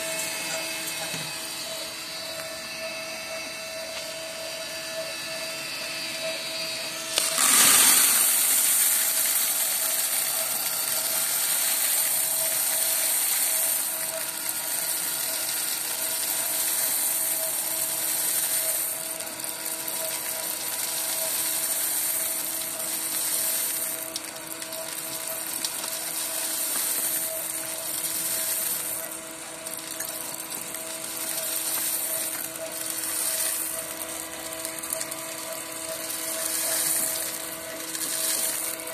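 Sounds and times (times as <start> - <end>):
coffee beans rattling and hissing: 0.0 - 3.0, 3.6 - 38.9
steady motor hum: 0.0 - 38.9.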